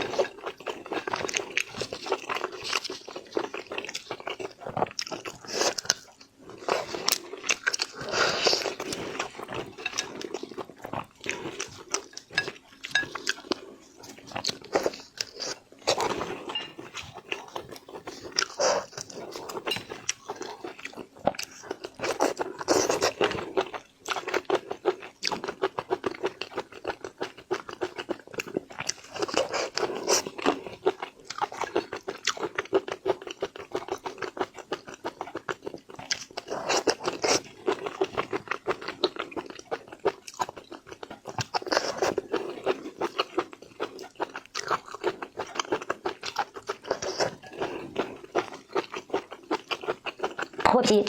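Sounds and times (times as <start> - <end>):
chewing and crunching seafood: 0.0 - 51.0.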